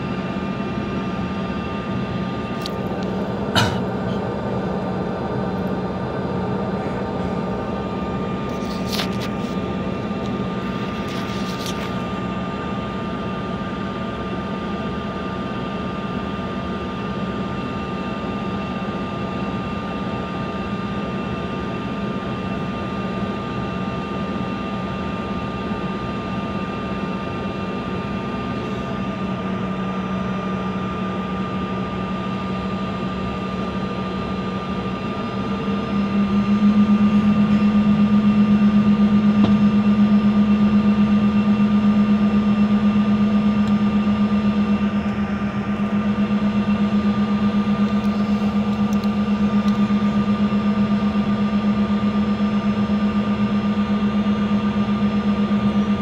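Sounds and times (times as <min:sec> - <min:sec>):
airliner engines humming: 0:00.0 - 0:56.0
high engine whine: 0:00.0 - 0:56.0.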